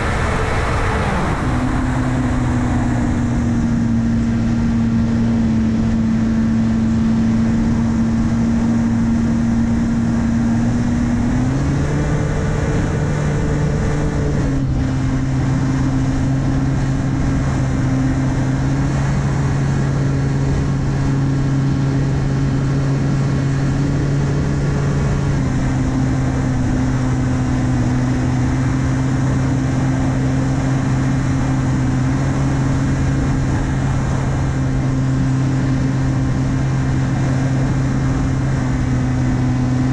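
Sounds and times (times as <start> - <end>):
rush of air: 0.0 - 39.9.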